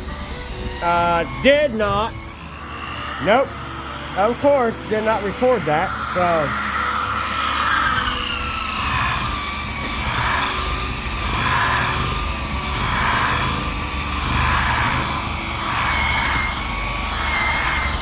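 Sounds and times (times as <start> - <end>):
orbital sander on wood: 0.0 - 18.0.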